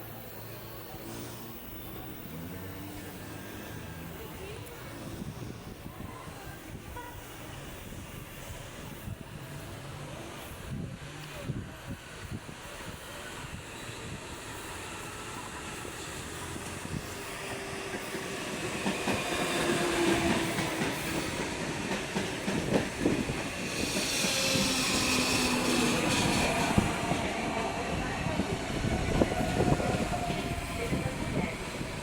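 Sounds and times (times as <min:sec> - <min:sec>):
electric train rumble: 0:00.0 - 0:32.0.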